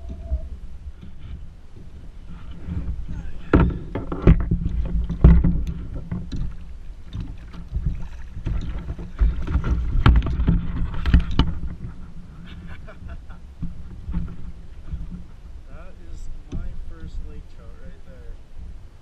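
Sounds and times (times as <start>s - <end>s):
rumble of wind and water: 0.0s - 19.0s.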